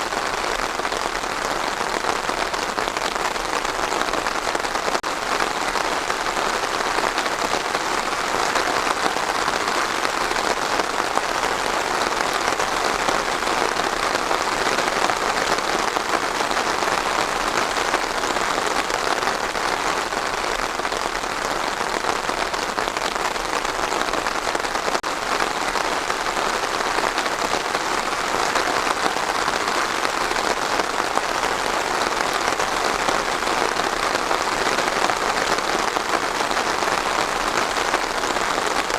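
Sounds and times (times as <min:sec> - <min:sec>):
steady rain patter: 0:00.0 - 0:38.9.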